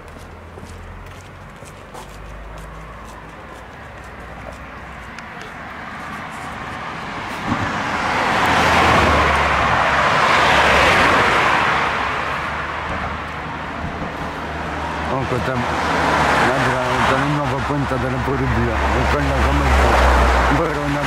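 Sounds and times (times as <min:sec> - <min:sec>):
road vehicle driving past: 0:00.0 - 0:21.0.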